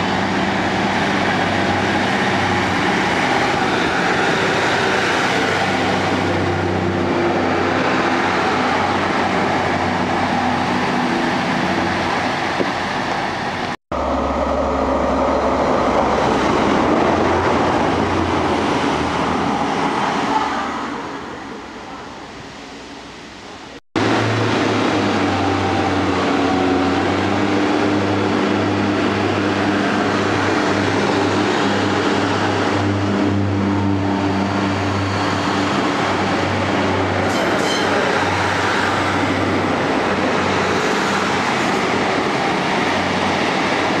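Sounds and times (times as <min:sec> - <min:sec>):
train diesel engines humming: 0:00.0 - 0:44.0.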